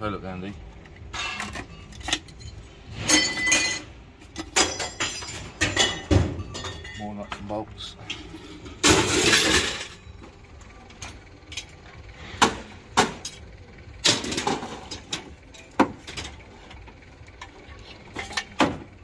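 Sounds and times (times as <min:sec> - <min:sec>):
nuts and bolts clattering into metal: 0:00.8 - 0:11.8, 0:12.4 - 0:19.0.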